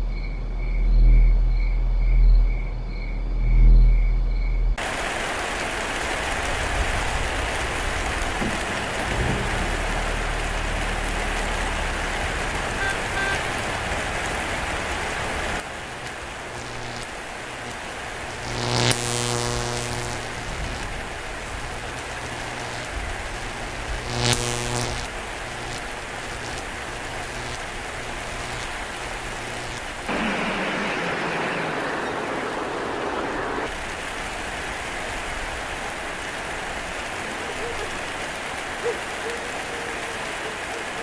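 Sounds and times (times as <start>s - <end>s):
heavy rain: 4.8s - 41.0s.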